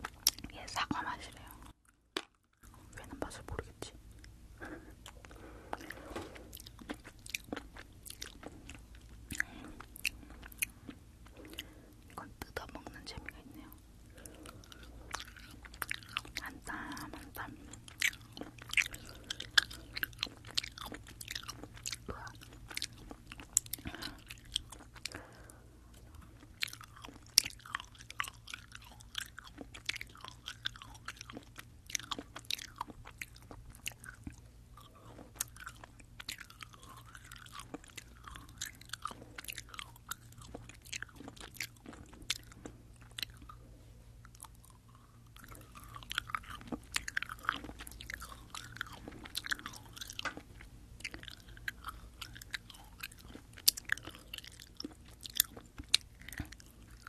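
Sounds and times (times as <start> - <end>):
close chewing with mouth clicks: 0.0 - 57.0.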